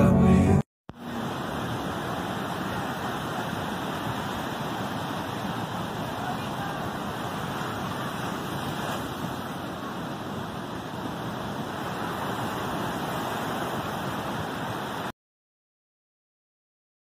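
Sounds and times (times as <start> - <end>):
surf breaking on beach: 1.0 - 15.1.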